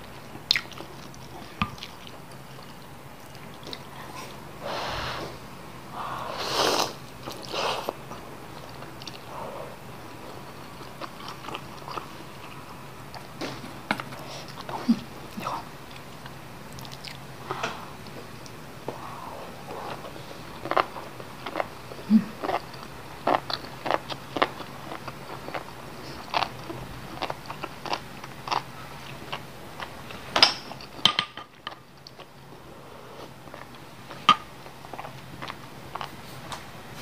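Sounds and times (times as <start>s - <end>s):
person chewing noodle soup: 0.2s - 4.4s, 6.6s - 13.4s, 14.0s - 17.3s, 18.0s - 36.3s.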